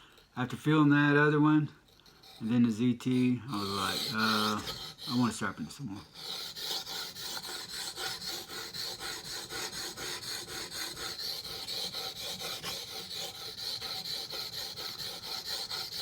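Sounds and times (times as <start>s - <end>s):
knife scraping on whetstone: 1.8s - 16.0s.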